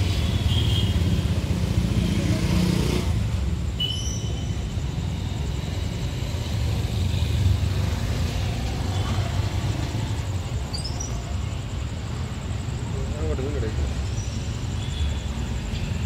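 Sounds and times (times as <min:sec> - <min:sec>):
low urban rumble: 0:00.0 - 0:16.0.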